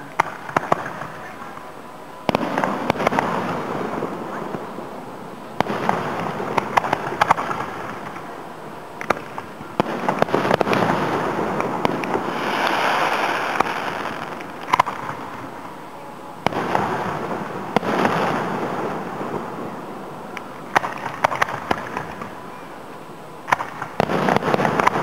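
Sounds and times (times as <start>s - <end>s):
rumbling echo and crackle: 0.0s - 1.6s, 2.3s - 15.8s, 16.4s - 22.4s, 23.4s - 25.0s
distant fireworks bangs: 0.0s - 22.6s, 23.4s - 25.0s
fireworks hiss: 0.0s - 25.0s.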